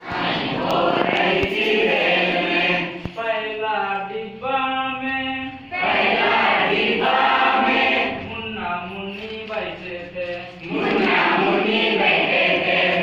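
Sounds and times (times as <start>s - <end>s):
group singing a children's song: 0.0s - 13.0s.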